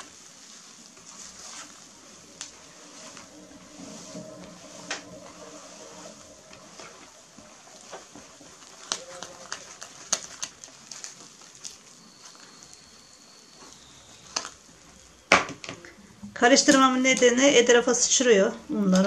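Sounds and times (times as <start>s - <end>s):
spatula stirring thick batter: 0.0s - 18.3s.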